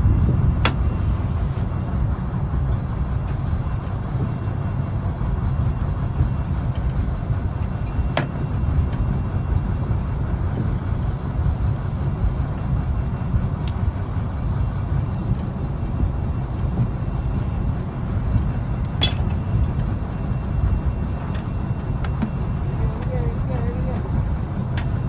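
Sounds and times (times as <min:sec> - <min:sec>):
boat diesel engine rumbling: 0:00.0 - 0:25.0.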